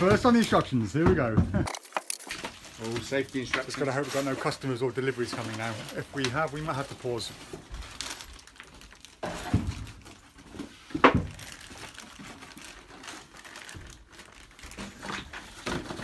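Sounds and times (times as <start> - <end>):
paper and packaging crinkling: 1.7 - 16.0.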